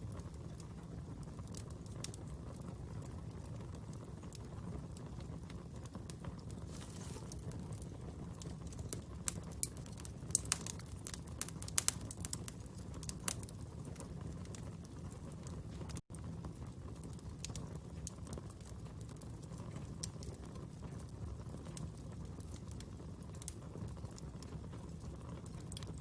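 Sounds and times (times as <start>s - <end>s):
fire crackles and pops: 0.0s - 26.0s
wood fire rumbling: 0.0s - 26.0s.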